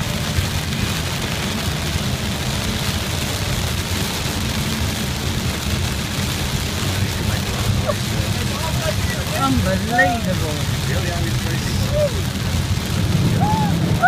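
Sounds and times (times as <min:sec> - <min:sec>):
continuous rushing hiss: 0:00.0 - 0:14.0
low vehicle rumble: 0:00.0 - 0:14.0.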